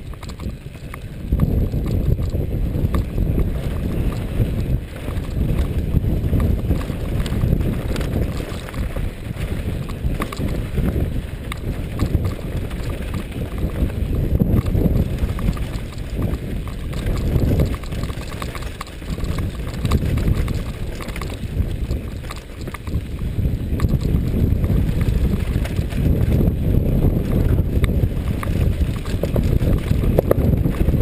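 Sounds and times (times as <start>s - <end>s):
bike rattling over stones: 0.0s - 31.0s
wind buffeting microphone: 0.0s - 31.0s.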